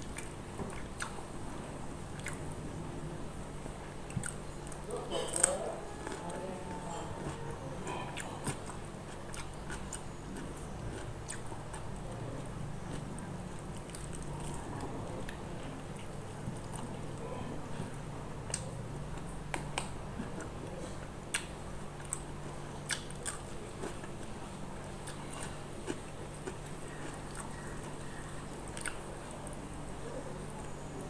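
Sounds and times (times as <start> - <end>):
chewing with mouth clicks: 0.1 - 1.3, 2.1 - 2.6, 4.0 - 29.8.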